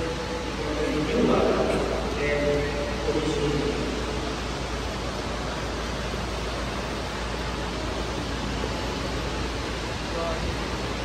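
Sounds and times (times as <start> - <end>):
steady room noise hiss: 0.0 - 11.0.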